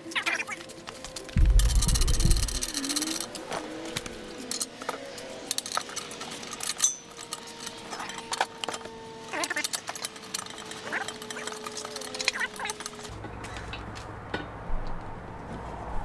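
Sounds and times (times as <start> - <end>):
metal tools clicking and clinking: 0.1 - 14.5.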